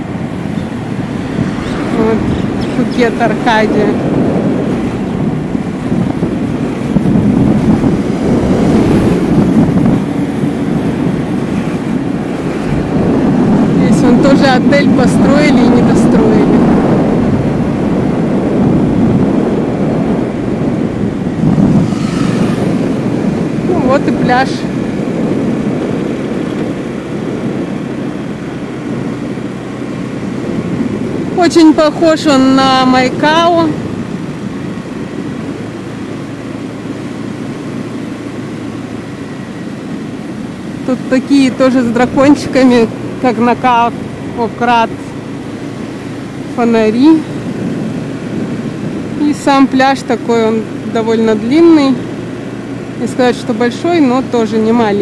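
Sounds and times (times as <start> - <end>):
vehicle engine and road noise: 0.0 - 55.0
wind buffeting microphone: 0.0 - 55.0.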